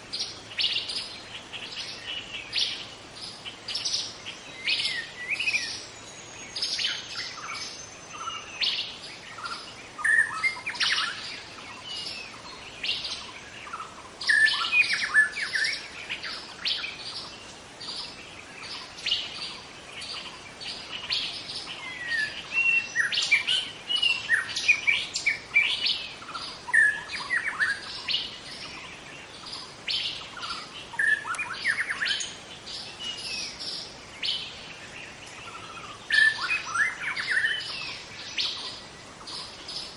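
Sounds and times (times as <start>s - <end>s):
bird singing whistles and trills: 0.1s - 39.9s.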